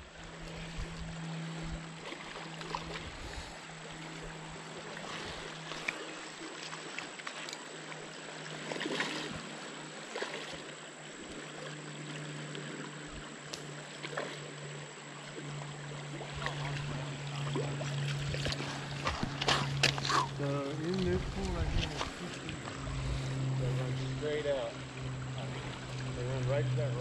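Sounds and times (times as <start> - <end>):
low steady hum: 0.0 - 27.0
river water flowing: 0.0 - 27.0.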